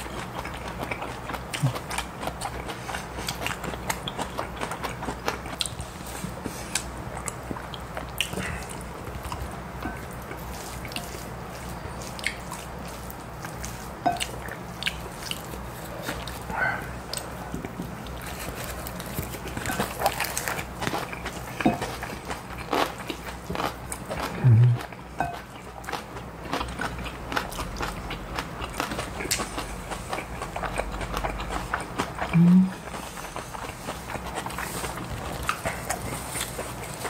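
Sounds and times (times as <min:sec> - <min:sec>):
chewing and biting food: 0:00.0 - 0:37.0.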